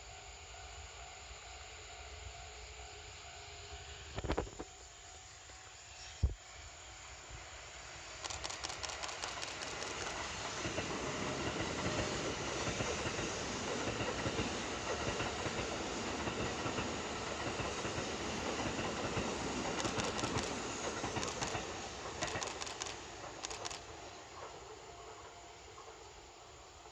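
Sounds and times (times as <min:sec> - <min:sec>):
passing train rumble: 0:00.0 - 0:26.9.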